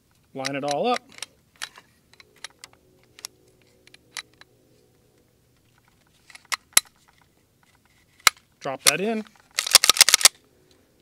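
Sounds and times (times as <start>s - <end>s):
metallic pistol parts clicking: 0.4s - 4.5s, 5.6s - 10.4s.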